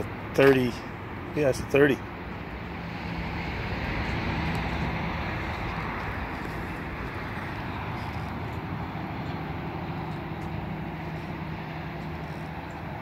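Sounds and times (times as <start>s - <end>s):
constant rushing noise: 0.0s - 13.0s
low mechanical hum: 0.0s - 13.0s.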